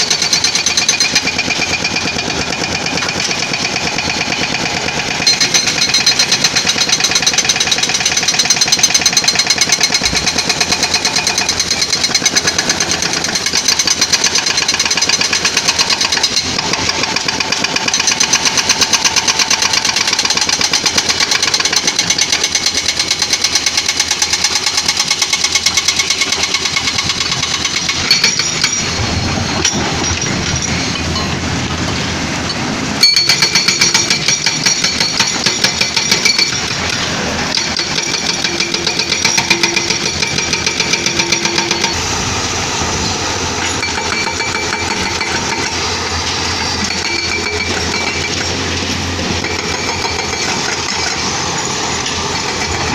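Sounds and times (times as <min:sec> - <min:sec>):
hydraulic breaker hammering rock: 0:00.0 - 0:31.3, 0:33.0 - 0:42.1, 0:43.5 - 0:52.9
diesel engine: 0:00.0 - 0:52.9.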